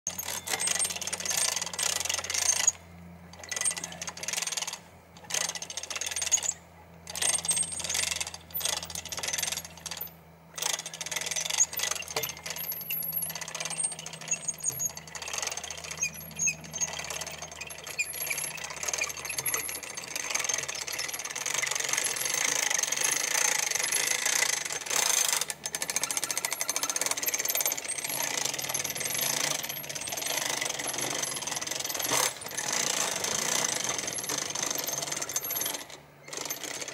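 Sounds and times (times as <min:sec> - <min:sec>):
ratchet winch pawl clicking: 0:00.1 - 0:36.9.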